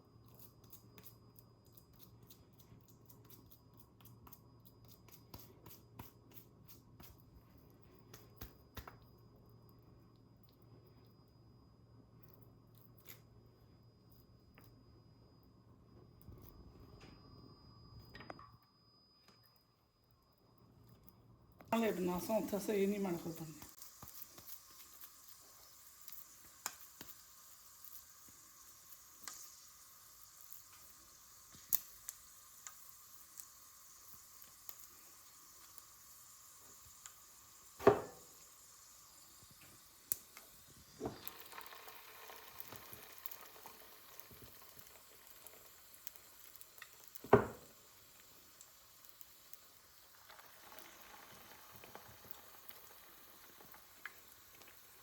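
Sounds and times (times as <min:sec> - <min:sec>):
patties sizzling in oil: 0:00.0 - 0:14.0, 0:21.2 - 0:55.0.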